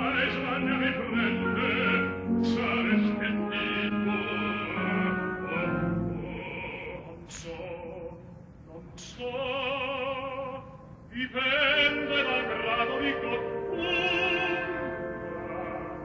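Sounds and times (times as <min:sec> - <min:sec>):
operatic voice singing: 0:00.0 - 0:16.0.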